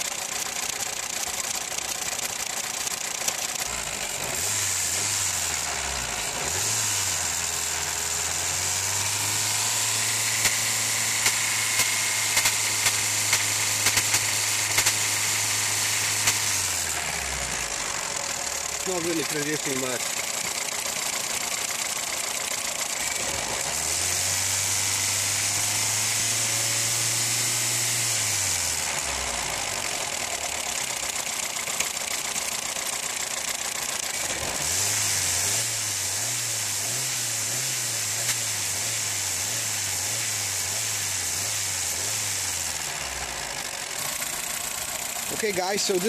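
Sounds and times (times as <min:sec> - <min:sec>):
car engine idling: 0:00.0 - 0:37.0, 0:37.8 - 0:46.0.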